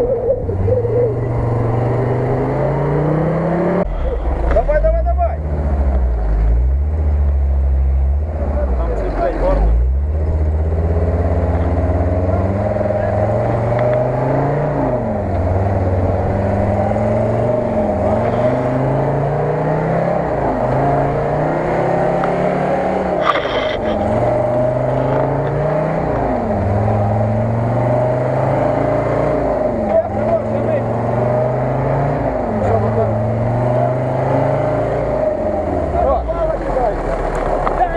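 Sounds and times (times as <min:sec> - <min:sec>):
off-road vehicle engine revving: 0:00.0 - 0:37.9.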